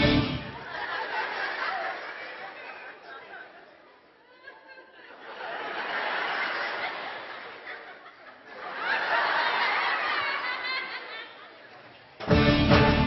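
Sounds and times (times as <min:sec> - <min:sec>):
audience laughing: 0:00.0 - 0:12.2.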